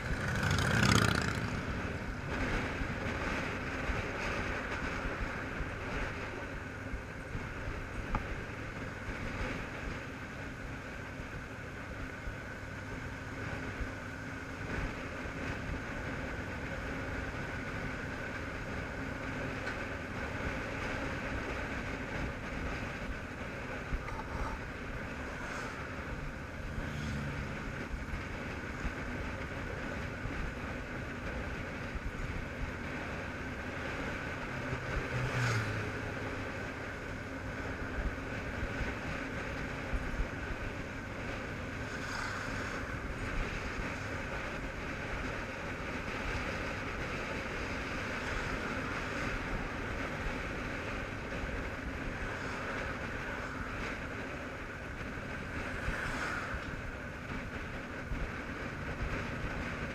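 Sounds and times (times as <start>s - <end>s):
motorcycle engine running: 0.0s - 56.0s
wind and road noise: 0.0s - 59.9s.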